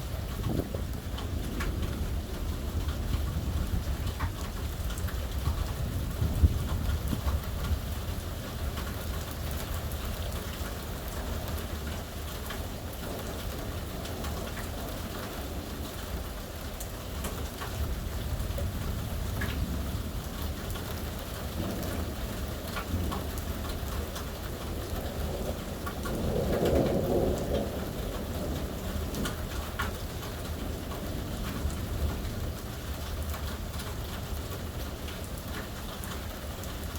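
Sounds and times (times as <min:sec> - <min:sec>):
heavy rain: 0:00.0 - 0:36.9
low rumble of thunder: 0:00.0 - 0:36.9.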